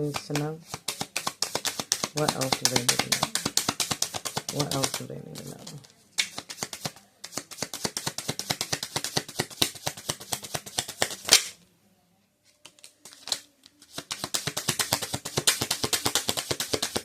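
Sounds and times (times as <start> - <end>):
card deck slap: 0.0 - 5.5, 6.2 - 11.6, 13.0 - 17.0
cards shuffling: 0.0 - 11.6, 12.6 - 17.0.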